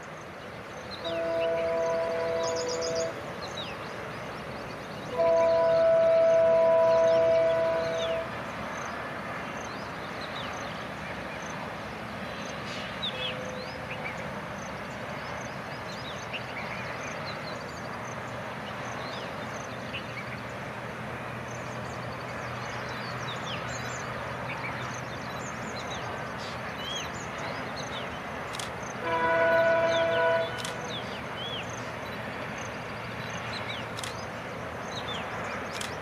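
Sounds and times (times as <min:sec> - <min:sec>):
distant diesel locomotive hum: 0:00.0 - 0:36.0
outdoor background noise: 0:00.0 - 0:36.0.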